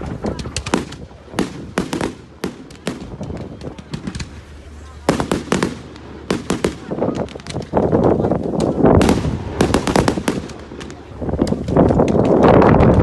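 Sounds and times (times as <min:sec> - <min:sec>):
fireworks crackling: 0:00.0 - 0:13.0
fireworks cracks and bangs: 0:00.0 - 0:13.0.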